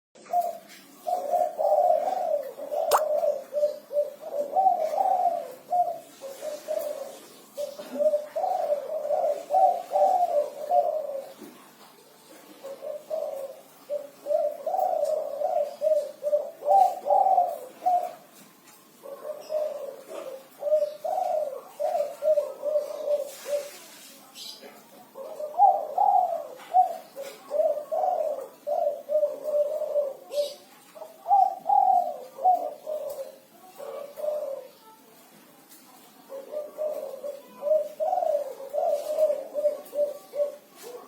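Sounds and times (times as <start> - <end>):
dove cooing: 0.2 - 41.0.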